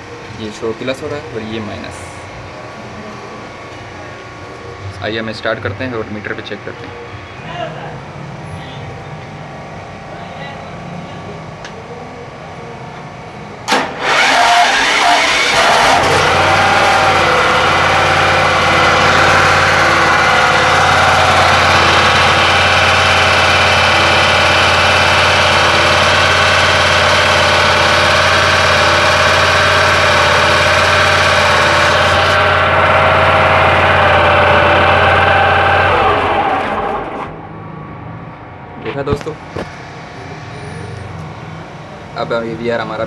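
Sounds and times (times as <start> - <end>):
generator engine running: 0.0 - 43.0.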